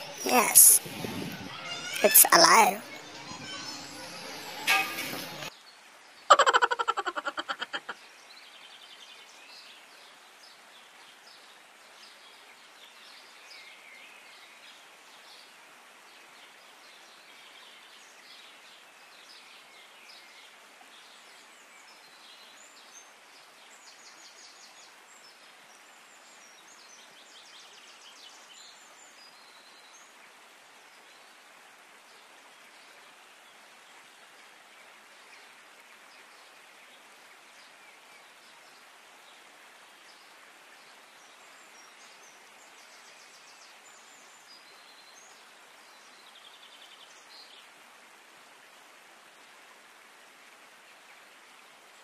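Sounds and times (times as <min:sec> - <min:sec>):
outdoor background hiss: 0:00.0 - 0:03.2, 0:03.9 - 0:52.0.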